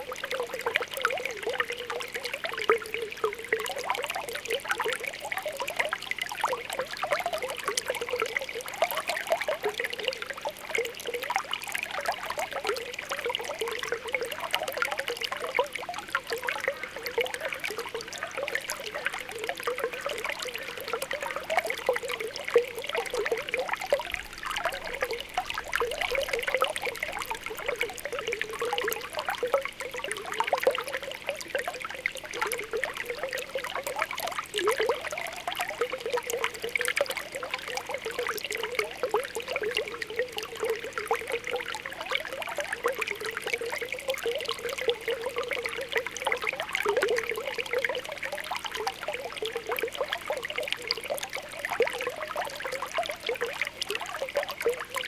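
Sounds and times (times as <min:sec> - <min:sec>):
spring water bubbling: 0:00.0 - 0:55.0
water trickling: 0:00.0 - 0:55.0.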